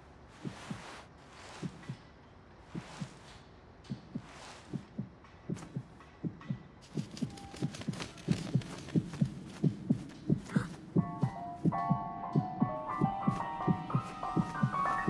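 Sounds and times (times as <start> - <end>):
heartbeat thumps: 0.3 - 2.0, 2.7 - 3.3, 3.9 - 15.0.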